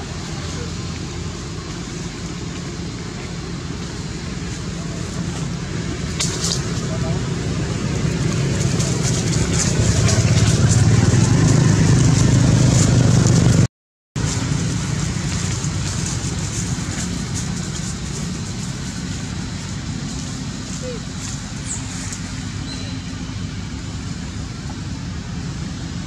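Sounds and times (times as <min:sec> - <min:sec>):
low engine-like hum: 0:00.0 - 0:26.0.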